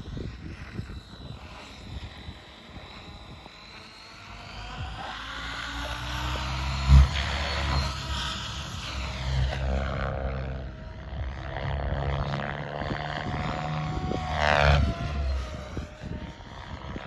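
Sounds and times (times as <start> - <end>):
helicopter rotor blades humming: 0.0 - 17.0.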